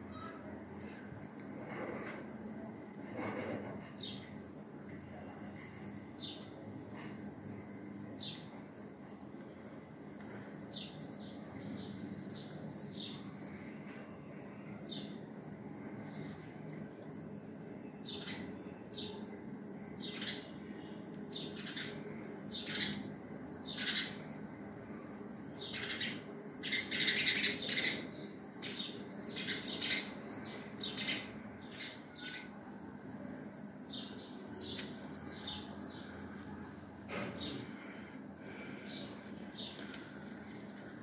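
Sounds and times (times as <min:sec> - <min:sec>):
small birds chirping: 0:03.9 - 0:16.8, 0:17.8 - 0:41.0.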